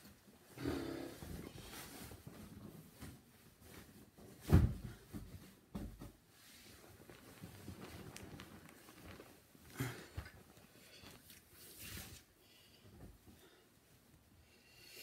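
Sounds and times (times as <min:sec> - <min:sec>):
rustling of someone moving: 0:00.0 - 0:14.6.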